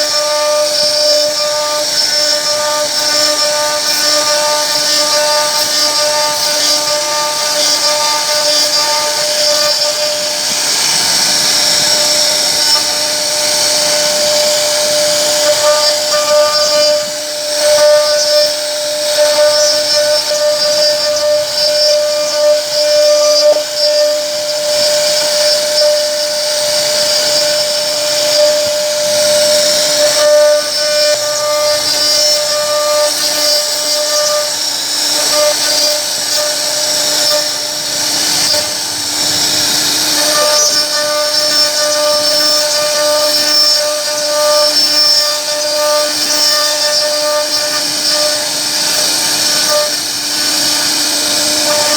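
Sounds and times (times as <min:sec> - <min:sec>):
cnc router spindle whine: 0:00.0 - 0:51.9.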